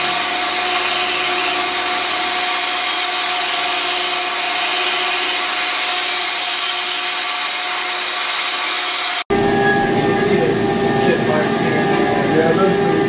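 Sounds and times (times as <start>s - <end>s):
constant motor tone: 0.0s - 13.0s.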